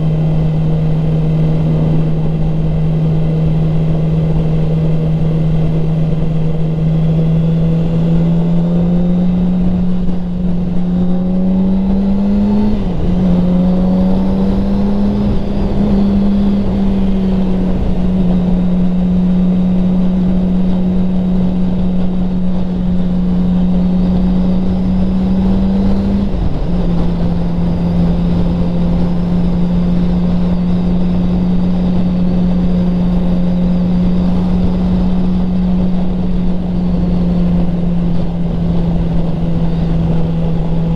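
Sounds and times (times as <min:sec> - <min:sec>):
motorcycle engine high drone: 0:00.0 - 0:40.9
wind and road noise: 0:00.0 - 0:40.9.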